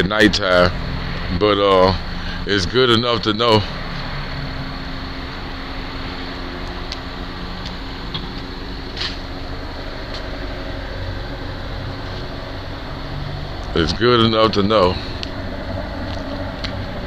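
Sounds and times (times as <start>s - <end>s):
helicopter drone: 0.0s - 17.0s.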